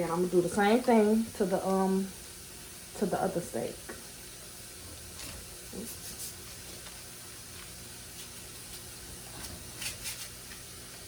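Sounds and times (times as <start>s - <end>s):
steak sizzling in a pan: 0.0s - 11.0s.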